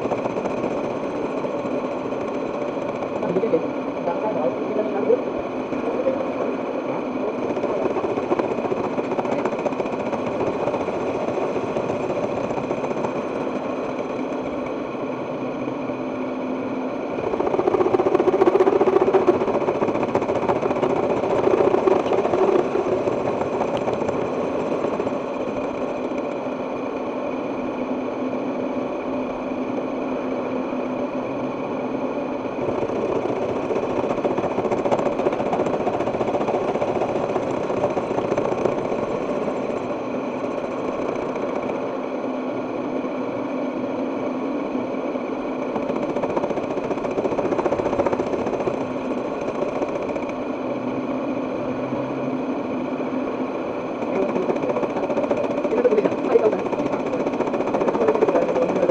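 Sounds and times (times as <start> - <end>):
milling machine humming: 0.0 - 58.9.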